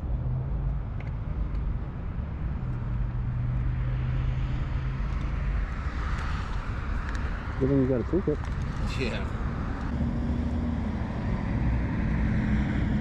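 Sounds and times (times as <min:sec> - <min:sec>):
engine hum: 0:00.0 - 0:13.0.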